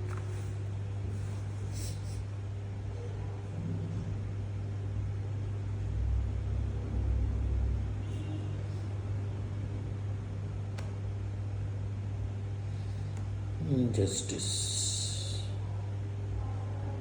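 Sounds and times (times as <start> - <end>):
low hum with rumble: 0.0 - 17.0.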